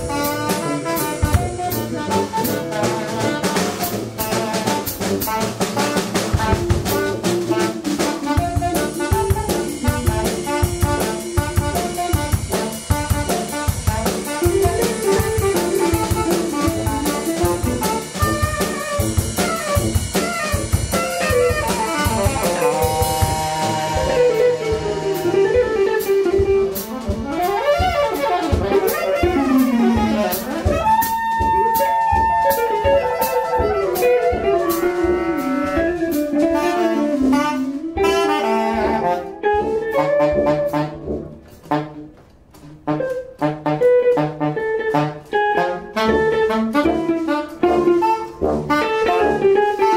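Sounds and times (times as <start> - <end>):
drum kit: 0.0 - 49.9
electric guitar: 0.0 - 49.9
tenor saxophone: 0.0 - 49.9
tuba: 0.0 - 49.9.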